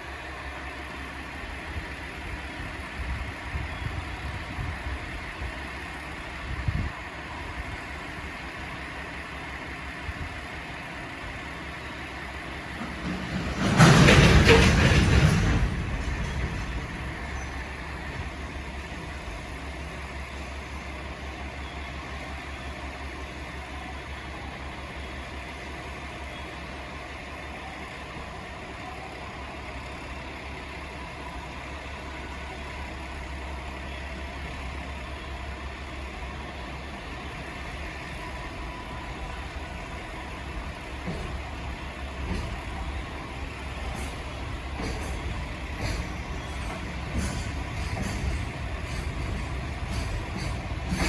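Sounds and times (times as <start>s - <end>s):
electric locomotive humming: 0.0s - 51.0s.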